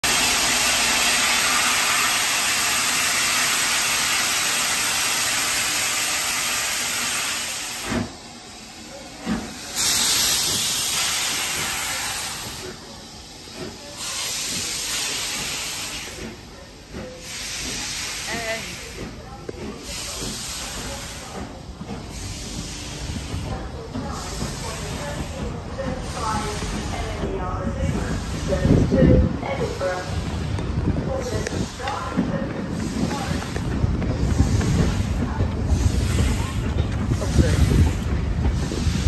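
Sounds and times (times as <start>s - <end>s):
steam locomotive hissing steam: 0.0s - 39.0s.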